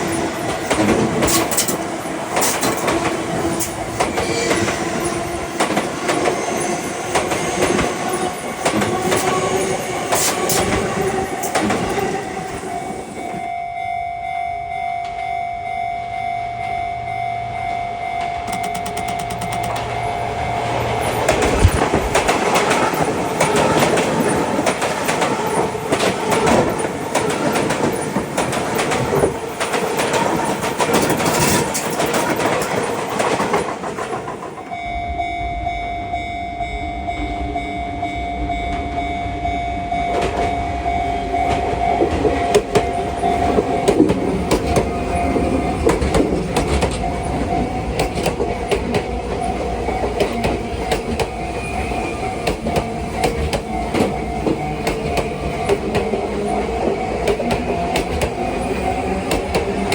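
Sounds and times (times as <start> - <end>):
train wheels clattering on rails: 0.0 - 13.5, 18.2 - 34.8, 40.0 - 59.9
level-crossing warning bell: 0.0 - 59.9
low train rumble: 0.0 - 59.9.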